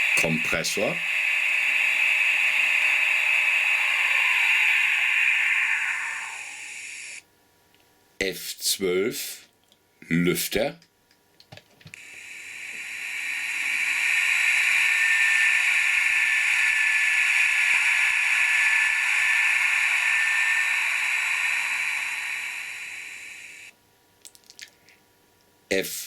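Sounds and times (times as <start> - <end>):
steady fan hiss from small speaker: 0.0 - 26.0.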